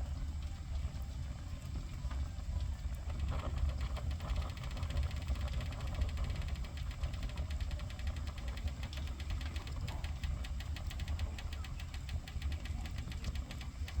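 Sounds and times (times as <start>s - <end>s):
low fire rumble: 0.0s - 14.0s.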